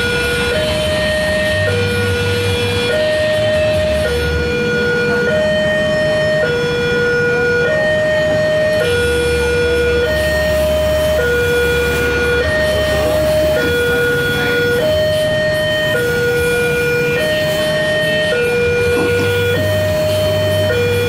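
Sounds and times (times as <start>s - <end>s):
idling engines rumbling: 0.0s - 21.0s
two-tone crossing alarm: 0.0s - 21.0s.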